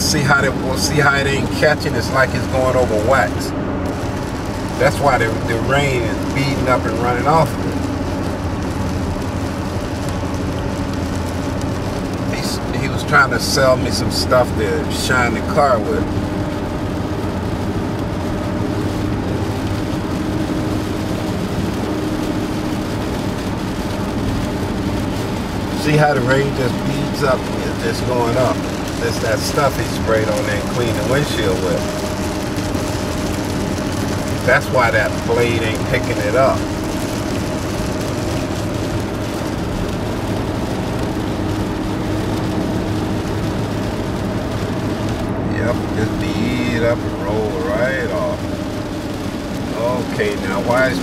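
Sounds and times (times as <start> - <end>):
car cabin road noise: 0.0 - 51.0
tyres rushing on wet pavement: 0.0 - 51.0.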